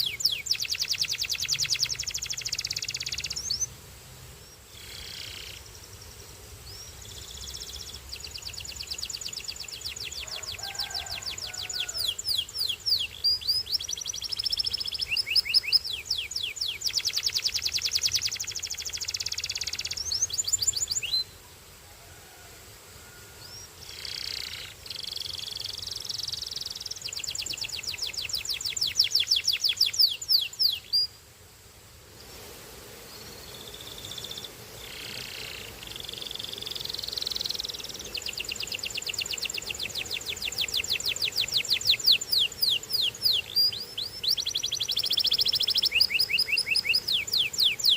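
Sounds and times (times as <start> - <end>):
canary singing in trills: 0.0 - 3.7, 6.7 - 21.4, 23.4 - 31.2, 33.6 - 47.9.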